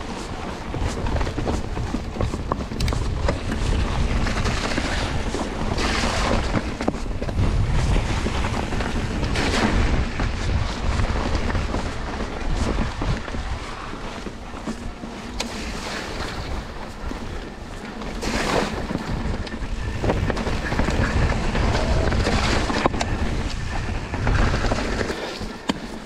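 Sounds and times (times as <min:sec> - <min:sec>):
bike clicks and rattles: 0:00.0 - 0:26.0
bike tyre noise: 0:00.0 - 0:26.0
wind rumbling on microphone: 0:00.0 - 0:26.0.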